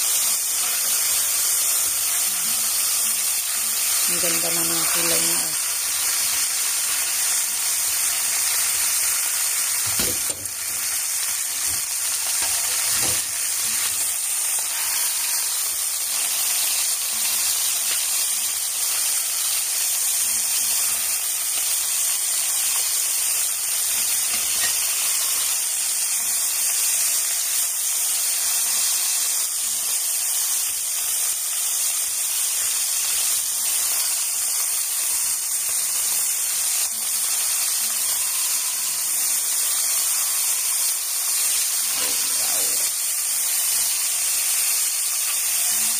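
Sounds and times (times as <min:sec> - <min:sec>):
chicken sizzling in a pot: 0:00.0 - 0:45.9.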